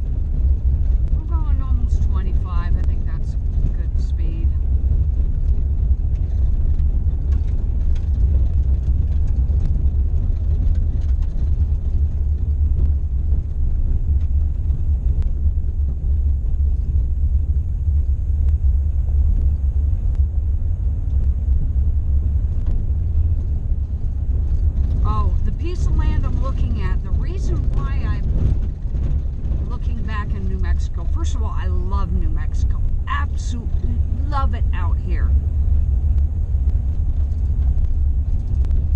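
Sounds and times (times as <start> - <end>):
vehicle driving on gravel: 0.0 - 38.9.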